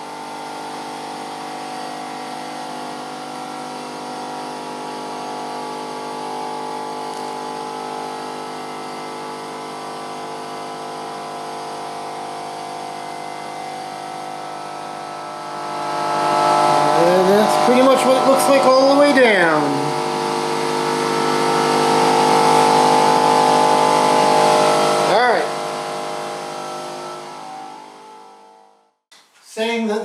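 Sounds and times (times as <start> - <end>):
electric machine hum: 0.0 - 29.0.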